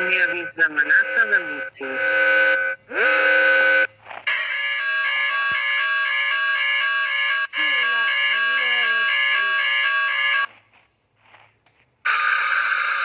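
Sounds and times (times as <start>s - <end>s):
electronic alarm tone: 0.0s - 10.5s, 12.1s - 13.0s.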